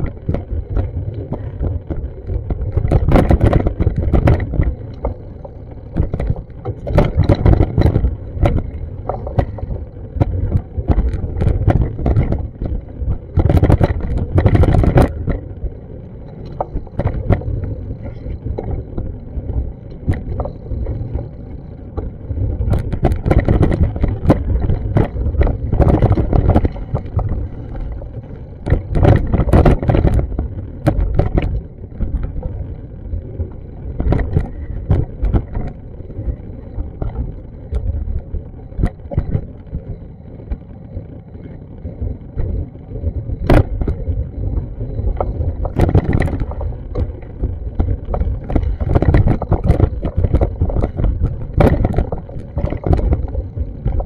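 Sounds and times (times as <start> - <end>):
crackles: 0.0 - 54.0
wind buffeting microphone: 0.0 - 54.0.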